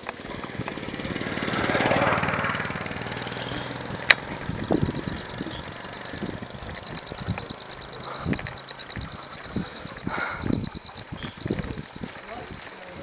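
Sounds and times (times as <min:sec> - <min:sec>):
motorcycle engine passing by: 0:00.0 - 0:13.0.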